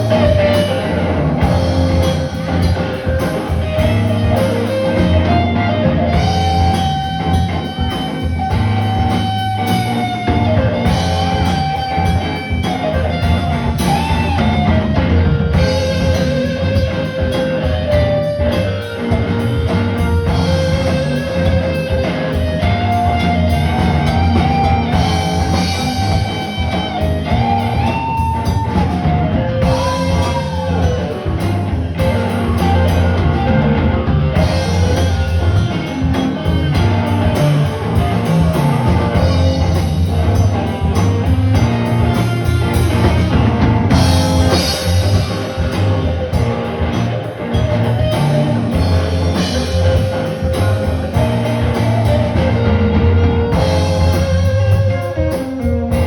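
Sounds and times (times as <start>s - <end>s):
lead guitar with string bends: 0.0s - 56.0s
live blues-rock band: 0.0s - 56.0s.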